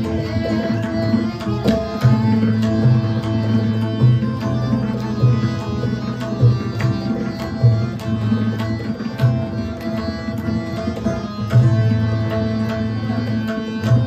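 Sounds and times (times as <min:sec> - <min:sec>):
long held keyboard notes: 0:00.0 - 0:14.0
tabla playing a rhythm: 0:00.0 - 0:14.0.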